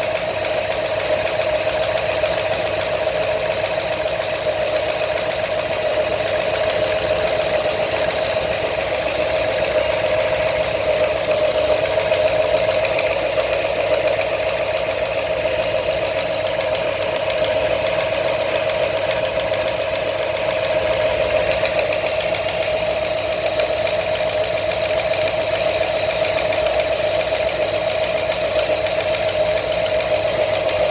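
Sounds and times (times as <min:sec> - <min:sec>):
engine running with rapid knock: 0:00.0 - 0:30.9.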